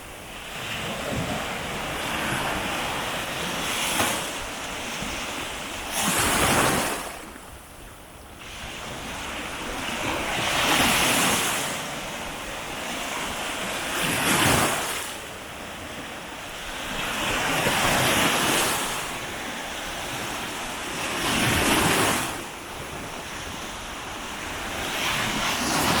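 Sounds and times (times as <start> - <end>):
waves breaking on beach: 0.0 - 26.0.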